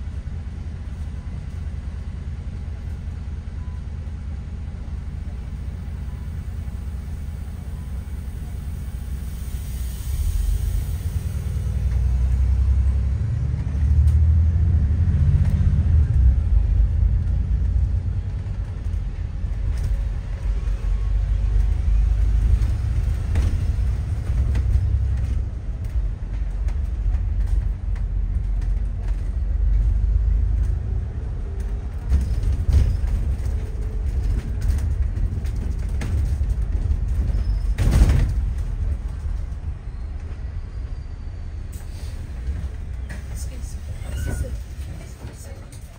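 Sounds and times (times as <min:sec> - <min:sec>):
bus engine and tyres droning: 0:00.0 - 0:45.9.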